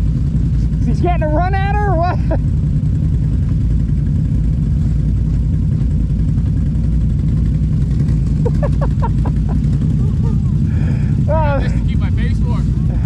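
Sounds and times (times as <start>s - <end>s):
atv engine rumbling: 0.0s - 13.0s.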